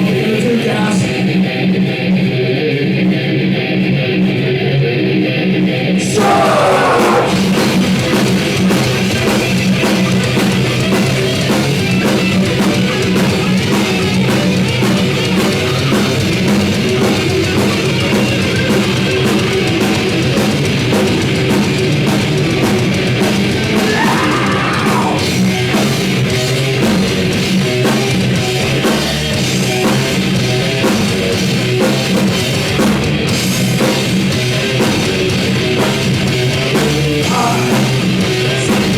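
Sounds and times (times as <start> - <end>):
rock band playing live: 0.0 - 38.9
drum kit pounding: 6.0 - 38.9.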